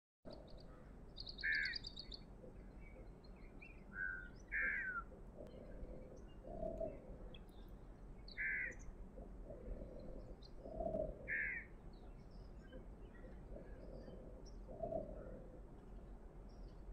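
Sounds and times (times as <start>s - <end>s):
faint background hiss: 0.3s - 16.9s
lower bird calls: 0.3s - 16.9s.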